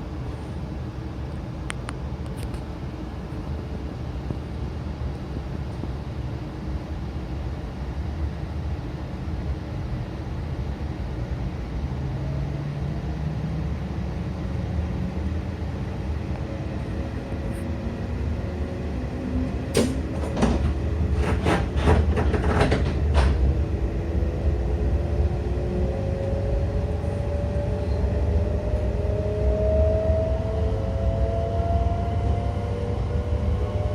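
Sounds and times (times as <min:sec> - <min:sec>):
train running rumble: 0:00.0 - 0:33.9.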